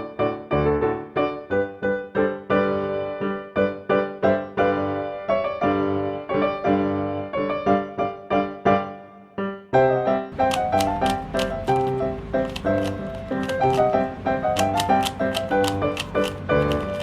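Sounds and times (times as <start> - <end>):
piano playing notes: 0.0 - 17.0.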